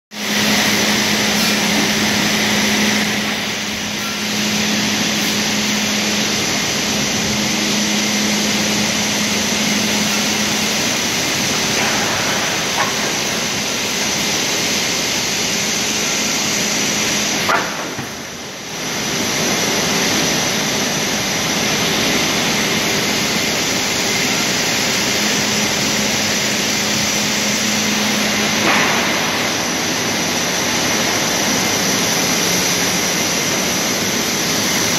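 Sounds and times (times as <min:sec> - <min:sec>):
saw and conveyor machinery noise: 0:00.1 - 0:34.9.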